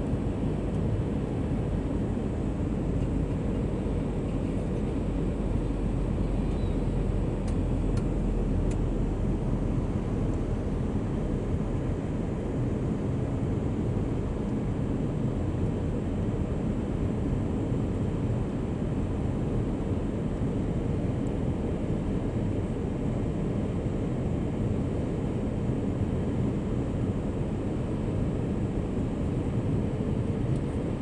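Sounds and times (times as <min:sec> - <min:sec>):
jet engines low hum: 0:00.0 - 0:31.0.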